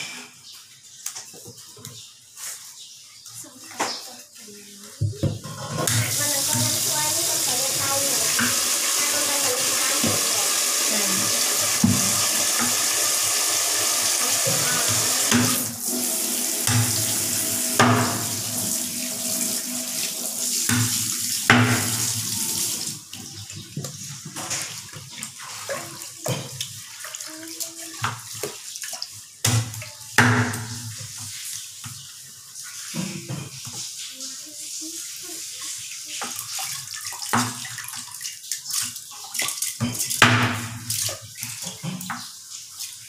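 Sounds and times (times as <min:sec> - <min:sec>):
running water: 0:00.5 - 0:43.0.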